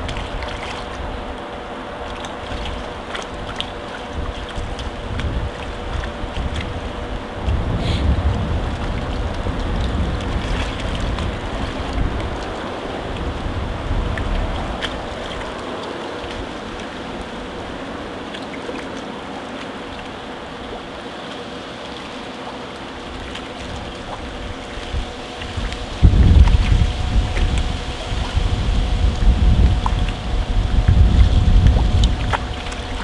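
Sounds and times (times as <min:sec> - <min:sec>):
wind rumble on microphone: 0:00.0 - 0:21.5, 0:22.8 - 0:33.0
faint steady hum: 0:00.0 - 0:33.0
sea water sloshing against steps: 0:00.0 - 0:33.0.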